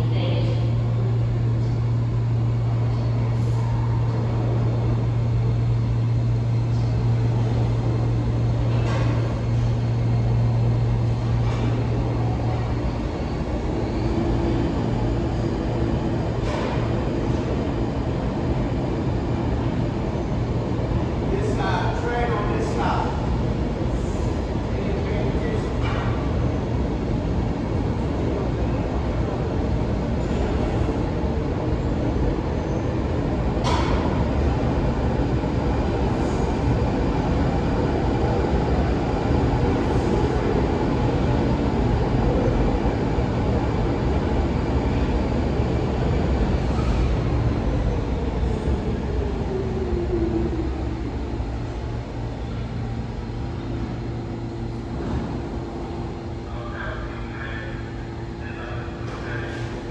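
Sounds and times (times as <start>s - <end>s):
train wheels rumbling on rails: 0.0s - 56.5s.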